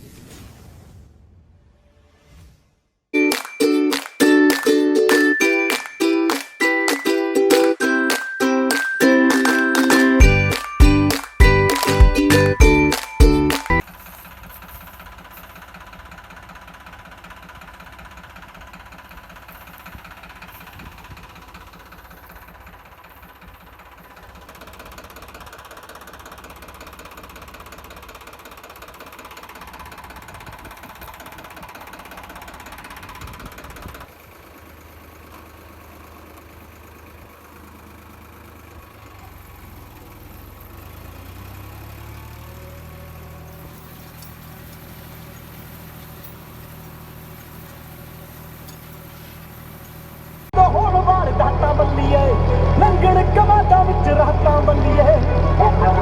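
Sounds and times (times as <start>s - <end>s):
diesel tractor engine running: 3.2s - 56.0s.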